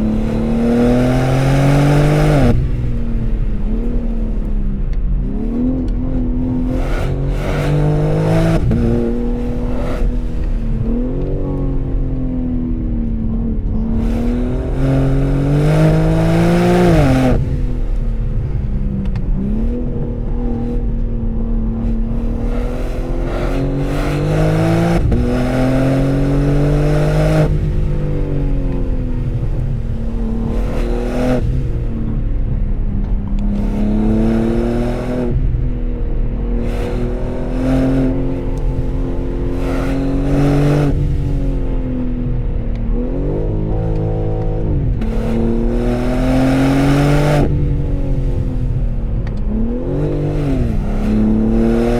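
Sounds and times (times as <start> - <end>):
car engine revving under acceleration: 0.0 - 51.9.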